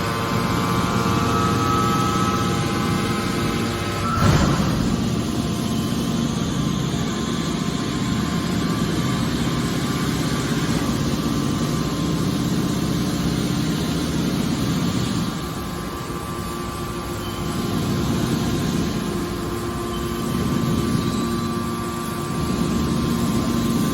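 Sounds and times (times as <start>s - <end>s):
can baler machine hum: 0.0s - 23.9s.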